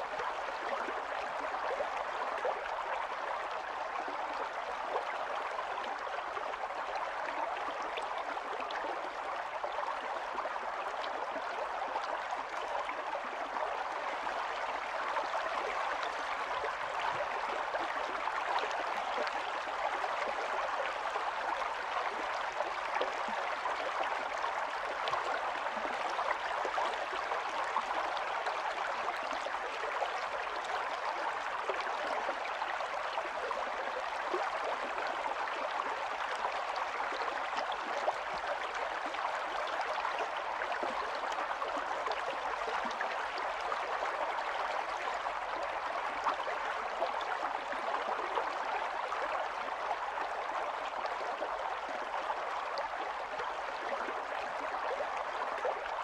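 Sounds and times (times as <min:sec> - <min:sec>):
stream babbling and gurgling: 0:00.0 - 0:56.0.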